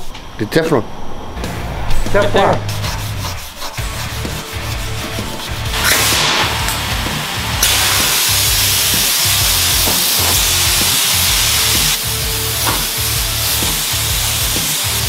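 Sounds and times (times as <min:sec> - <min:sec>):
background music with beat: 0:02.7 - 0:15.0
compressed air hissing: 0:02.8 - 0:15.0.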